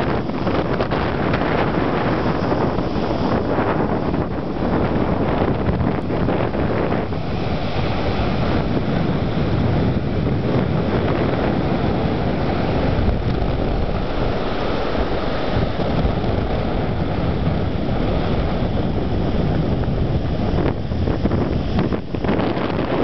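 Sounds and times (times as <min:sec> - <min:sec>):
surf breaking on beach: 0:00.0 - 0:23.0
wind buffeting microphone: 0:00.0 - 0:23.0.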